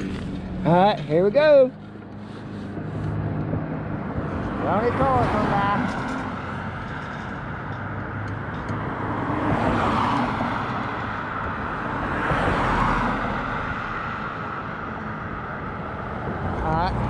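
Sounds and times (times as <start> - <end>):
road and wind noise: 0.0 - 17.0
vehicles passing: 0.0 - 17.0.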